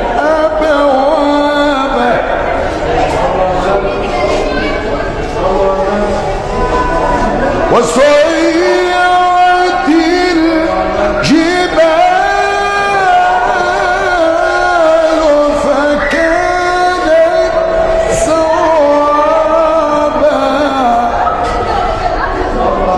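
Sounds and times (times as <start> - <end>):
melodic recitation by one voice: 0.0 - 4.8, 7.6 - 22.9.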